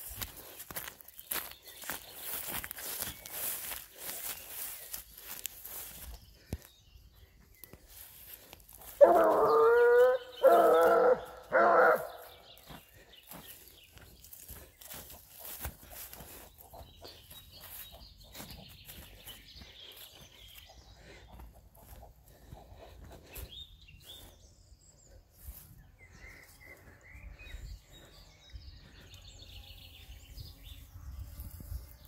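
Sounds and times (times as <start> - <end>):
footsteps through long grass: 0.0 - 29.1
birds chirping: 0.0 - 32.0.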